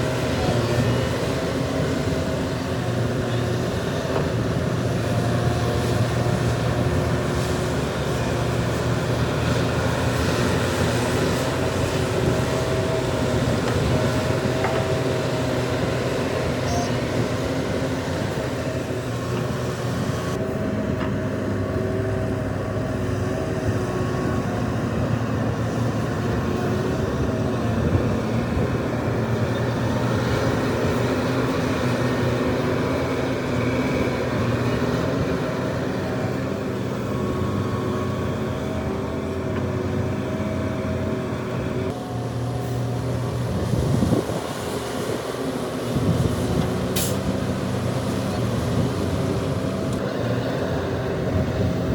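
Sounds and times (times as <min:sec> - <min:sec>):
diesel excavator working: 0:00.0 - 0:51.9.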